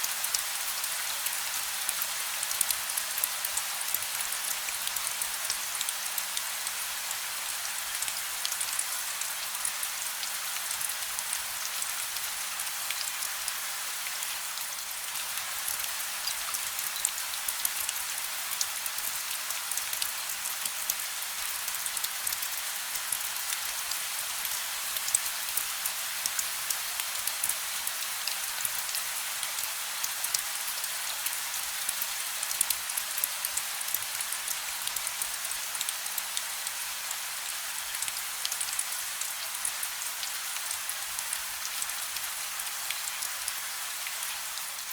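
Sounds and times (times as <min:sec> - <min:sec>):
gentle rain: 0:00.0 - 0:44.9.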